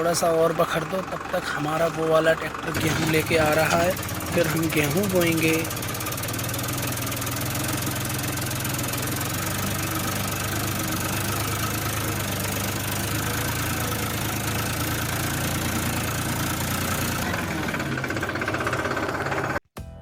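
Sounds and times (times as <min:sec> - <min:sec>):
tractor engine chugging: 0:00.0 - 0:19.6.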